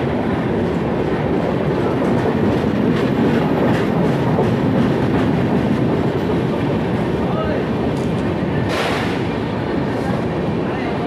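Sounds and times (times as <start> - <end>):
clickety-clack over rail joints: 0.0 - 11.0
train wheels rumbling on rails: 0.0 - 11.0.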